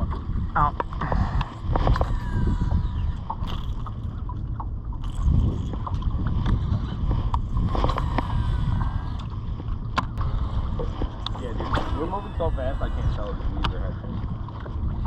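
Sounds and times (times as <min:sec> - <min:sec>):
wind and water around hull: 0:00.0 - 0:15.0.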